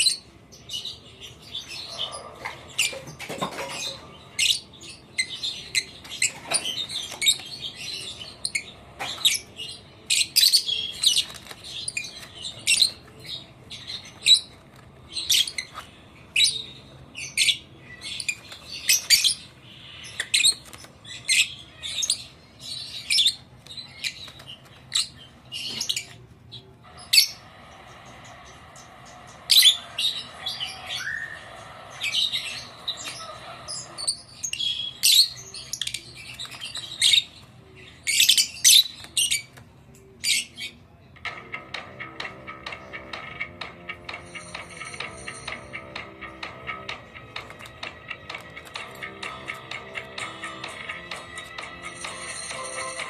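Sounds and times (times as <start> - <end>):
lovebirds chirping: 0.0 - 40.8, 41.6 - 53.0.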